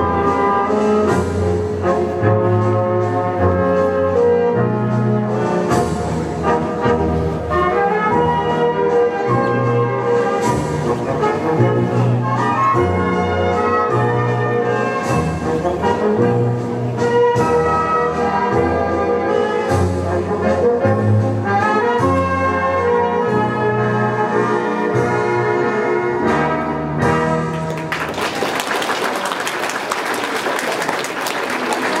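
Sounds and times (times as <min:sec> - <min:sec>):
brass-led orchestral dance music: 0:00.0 - 0:27.7.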